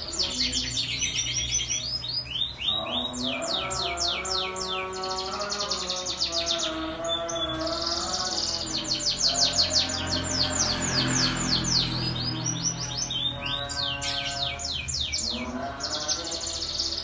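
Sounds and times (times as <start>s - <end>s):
canary singing trilled song: 0.0s - 17.0s.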